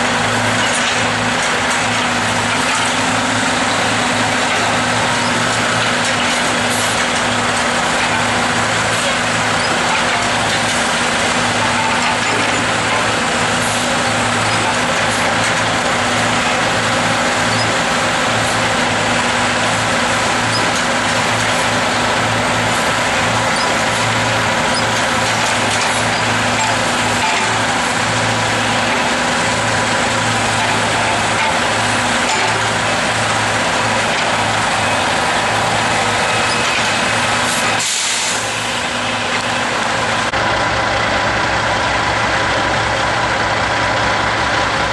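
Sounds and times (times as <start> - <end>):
road and wind noise: 0.0 - 44.9
truck engine hum: 0.0 - 44.9.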